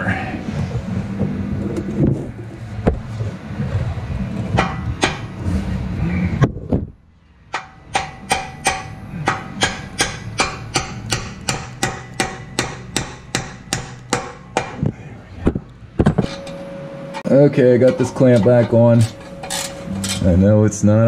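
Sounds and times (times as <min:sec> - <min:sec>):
rumbling handling noise: 0:00.3 - 0:20.5.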